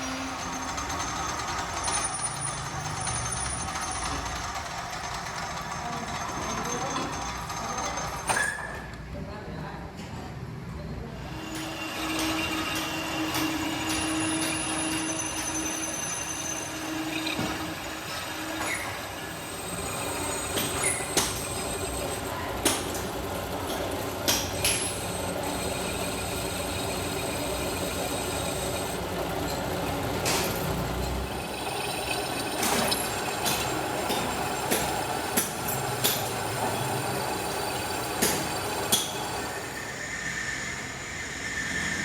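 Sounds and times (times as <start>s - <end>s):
factory machinery running: 0.0s - 8.7s, 11.2s - 42.0s.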